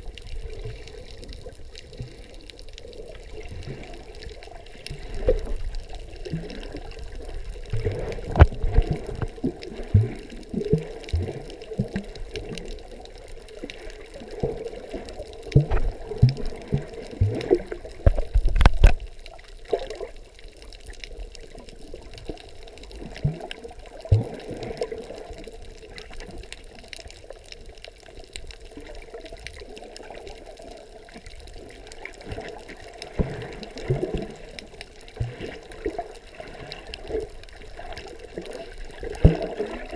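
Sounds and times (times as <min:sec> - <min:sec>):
muffled underwater splashing: 0:00.0 - 0:20.2, 0:21.2 - 0:26.8, 0:28.7 - 0:39.9.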